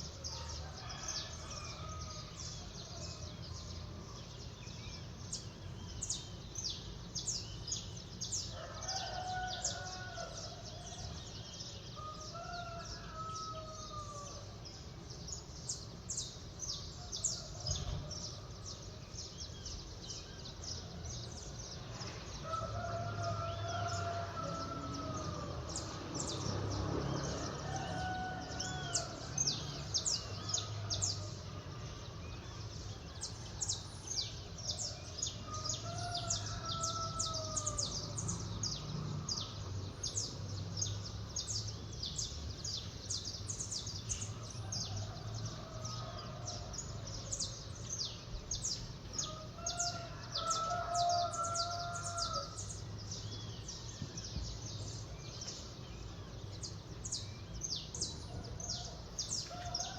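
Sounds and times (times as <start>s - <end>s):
distant rooster crowing: 0.0s - 4.3s, 8.2s - 15.8s, 16.6s - 19.8s, 20.6s - 55.6s, 56.2s - 59.9s
many small birds chirping: 0.0s - 59.9s.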